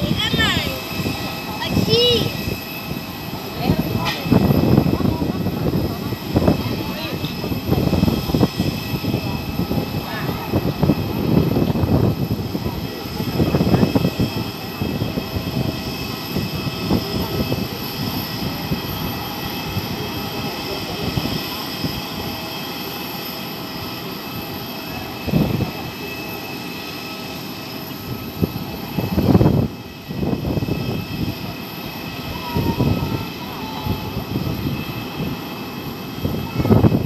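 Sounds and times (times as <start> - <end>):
airliner engines whining: 0.0 - 37.0.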